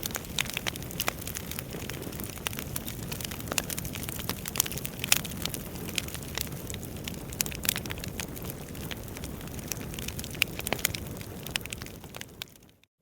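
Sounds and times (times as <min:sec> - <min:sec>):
flames rushing: 0:00.0 - 0:12.6
logs crackling and popping: 0:00.0 - 0:12.9.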